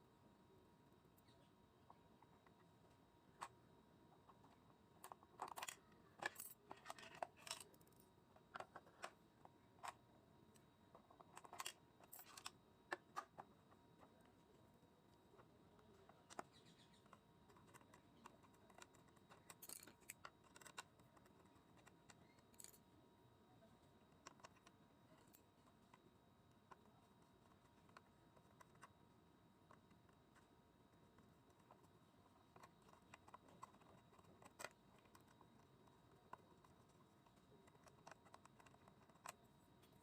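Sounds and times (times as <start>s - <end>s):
faint clicks and knocks of plastic parts: 0.0s - 40.0s.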